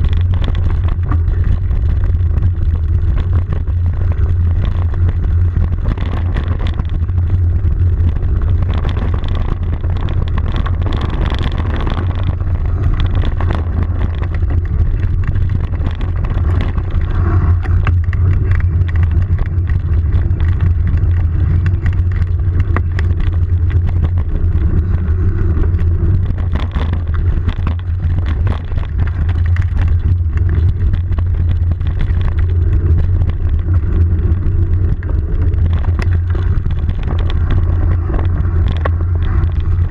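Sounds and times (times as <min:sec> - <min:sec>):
clicks and rattles from rough ground: 0:00.0 - 0:39.9
wind rumble on microphone: 0:00.0 - 0:39.9.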